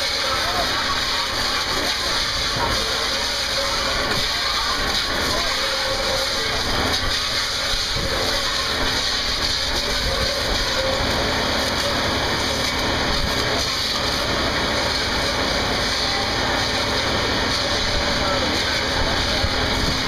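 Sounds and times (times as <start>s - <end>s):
water jet spraying against barrel: 0.0s - 20.0s.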